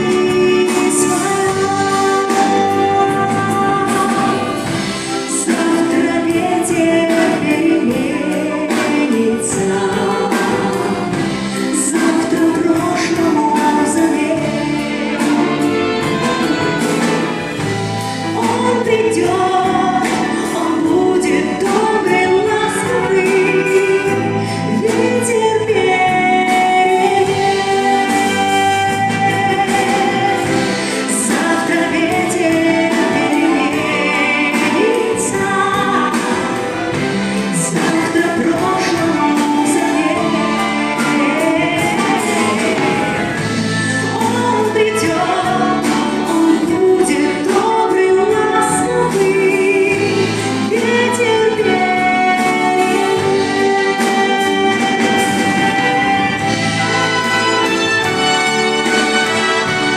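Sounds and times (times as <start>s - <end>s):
song with choir backing: 0.0s - 59.9s.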